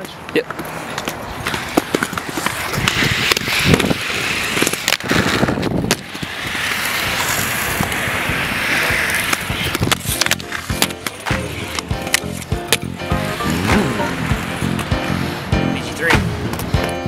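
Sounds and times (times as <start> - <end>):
skate wheels rolling on concrete: 0.0 - 17.0.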